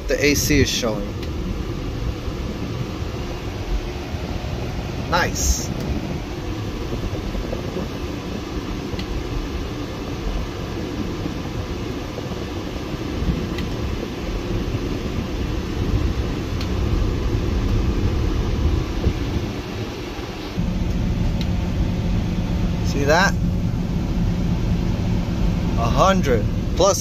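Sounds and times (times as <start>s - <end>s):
truck engine idling: 0.0s - 27.0s
air-conditioning blower: 0.2s - 26.9s.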